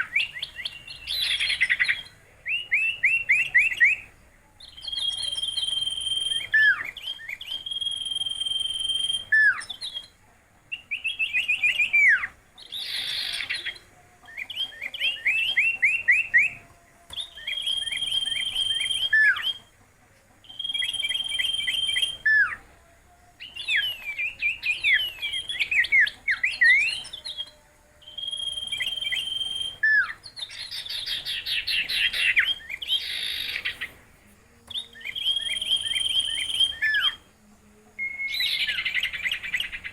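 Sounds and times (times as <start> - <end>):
songbird whistling: 0.0 - 19.7, 20.4 - 22.6, 23.4 - 33.9, 34.7 - 37.2, 38.0 - 39.9.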